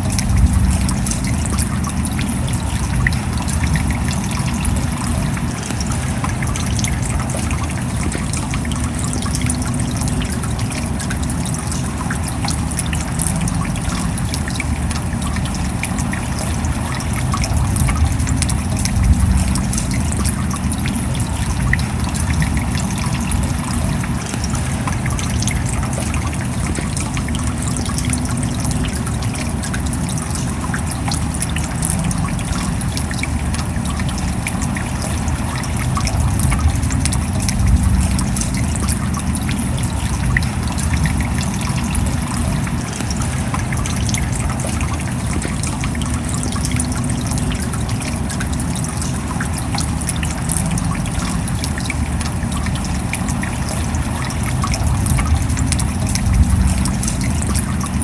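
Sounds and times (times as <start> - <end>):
rain drops ticking: 0.0 - 58.0
rain wash of noise: 0.0 - 58.0.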